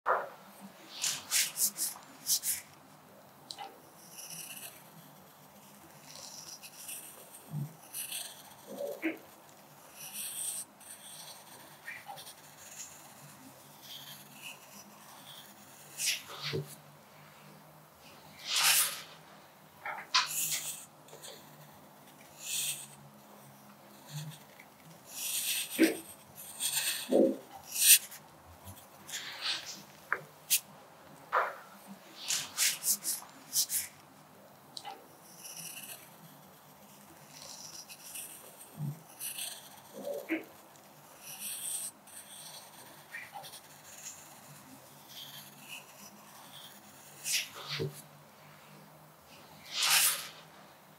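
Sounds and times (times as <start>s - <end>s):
pencil scratching on paper: 0.1s - 2.8s, 3.5s - 34.2s, 34.8s - 50.7s.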